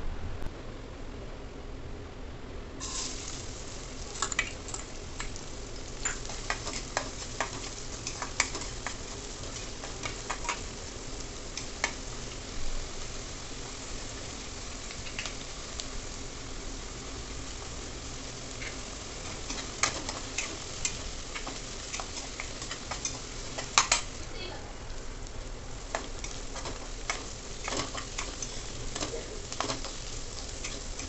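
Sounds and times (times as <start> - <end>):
onions sizzling in hot oil: 2.8 - 31.0.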